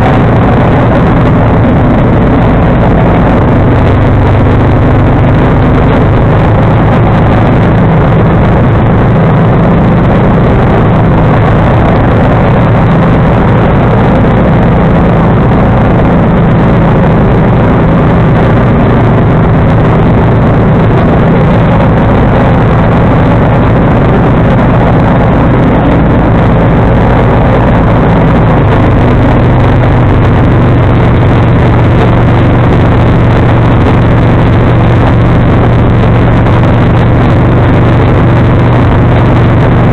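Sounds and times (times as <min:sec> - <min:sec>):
garden tractor engine droning: 0:00.0 - 0:39.9.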